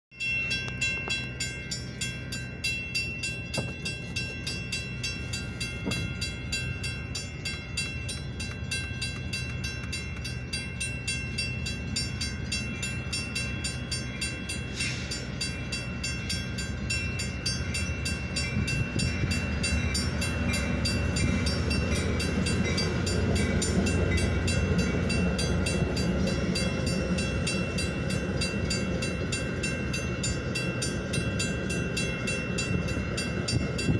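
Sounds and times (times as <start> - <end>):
crossing warning bell ringing: 0.1 - 33.9
train cars rumbling past: 0.1 - 33.9.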